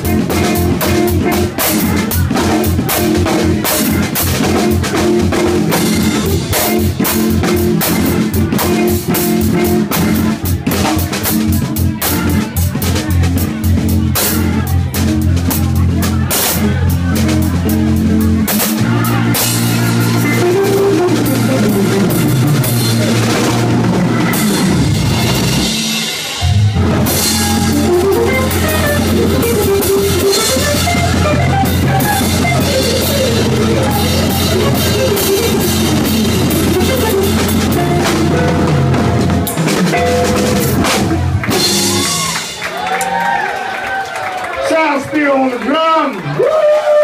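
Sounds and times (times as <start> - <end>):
drum kit with crashing cymbals: 0.0 - 42.8
low bass notes: 0.0 - 43.0
electric guitar lead line: 0.0 - 43.2.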